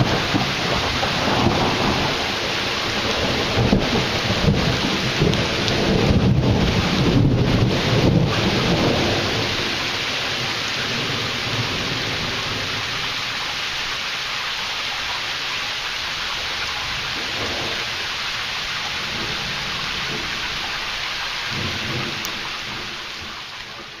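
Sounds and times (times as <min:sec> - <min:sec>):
low rumble of thunder: 0:00.0 - 0:13.2, 0:16.9 - 0:24.0
heavy rain falling: 0:00.0 - 0:24.0.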